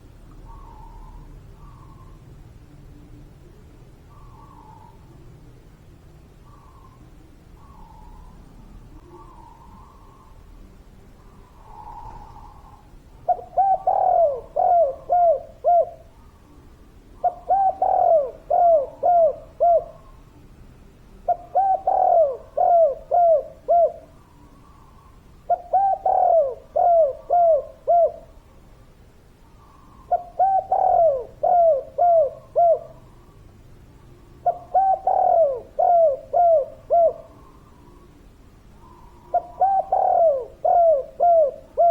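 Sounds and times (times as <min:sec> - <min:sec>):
dove cooing: 0:00.0 - 0:02.4, 0:04.1 - 0:05.2, 0:06.4 - 0:20.4, 0:21.1 - 0:28.6, 0:29.6 - 0:41.9.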